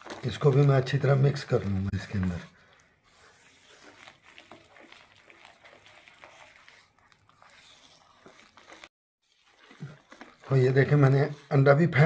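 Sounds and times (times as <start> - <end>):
wet squelching: 0.0 - 12.0.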